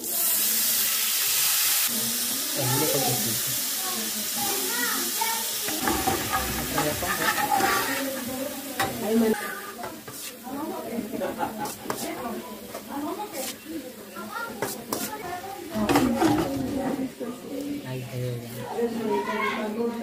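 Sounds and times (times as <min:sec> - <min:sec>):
wine sizzling in hot oil: 0:00.0 - 0:19.6.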